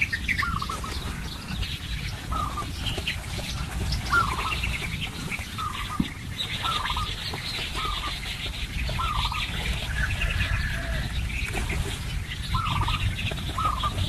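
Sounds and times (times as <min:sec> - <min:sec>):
birds twittering: 0:00.0 - 0:14.0.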